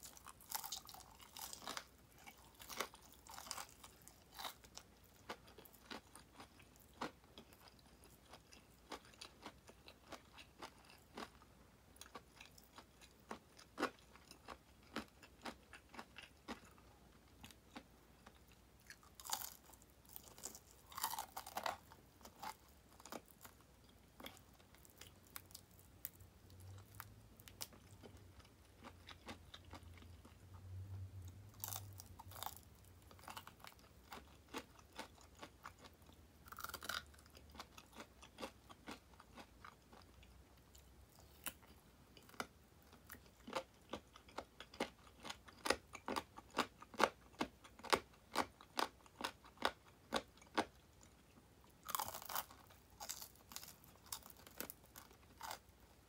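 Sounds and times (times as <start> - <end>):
crunchy chewing of fried chicken: 0.0 - 56.0.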